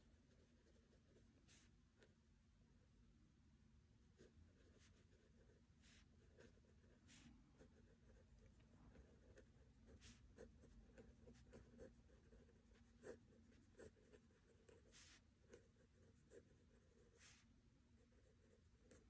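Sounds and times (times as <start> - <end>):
pen scratching on paper: 0.1 - 1.7, 4.2 - 19.0.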